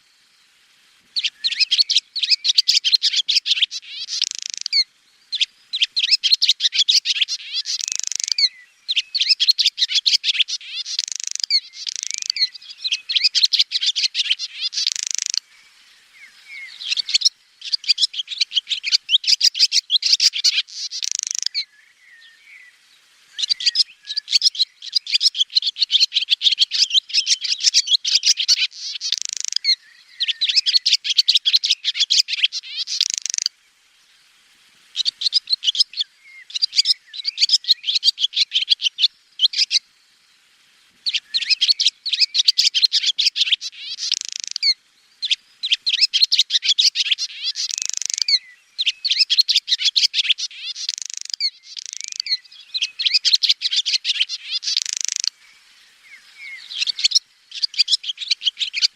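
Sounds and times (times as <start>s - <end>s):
swallow twittering: 1.2s - 33.5s, 34.9s - 39.8s, 41.0s - 58.9s.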